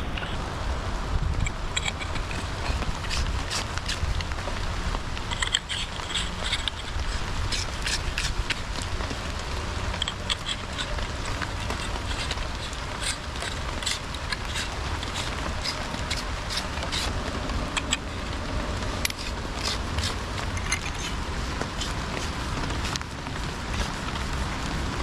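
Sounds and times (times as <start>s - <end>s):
low rumble: 0.0s - 25.0s
steady rain hiss: 0.0s - 25.0s
rain drops ticking: 0.1s - 25.0s.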